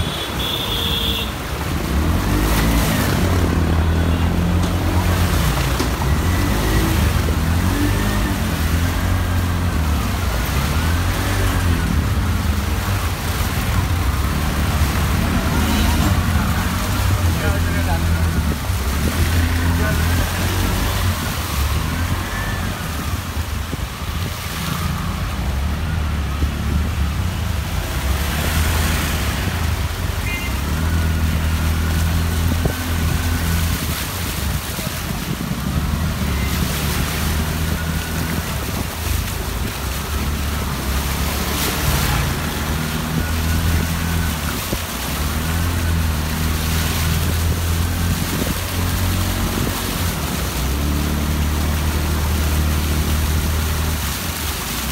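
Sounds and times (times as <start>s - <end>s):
constant rushing noise: 0.0s - 54.9s.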